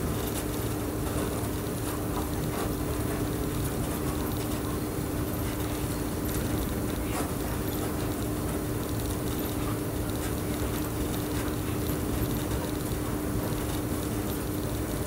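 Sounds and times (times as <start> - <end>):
constant hum: 0.0 - 15.0.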